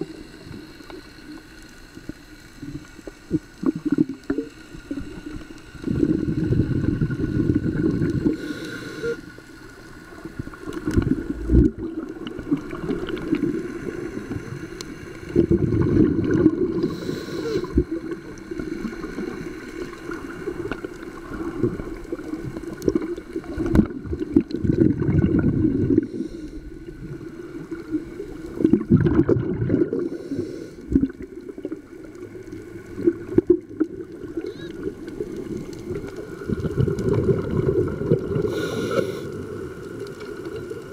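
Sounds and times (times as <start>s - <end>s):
underwater air bubbles gurgling: 0.0s - 40.9s.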